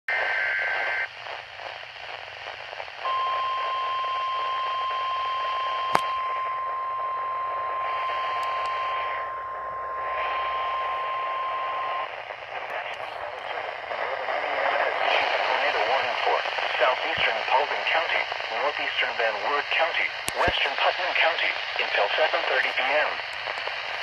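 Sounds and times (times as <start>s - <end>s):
radio static: 0.1s - 24.0s.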